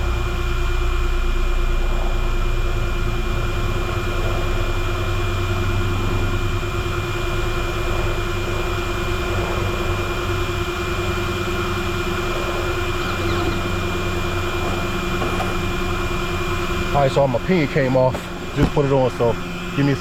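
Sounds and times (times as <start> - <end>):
cooling fans whirring with whine: 0.0 - 20.0.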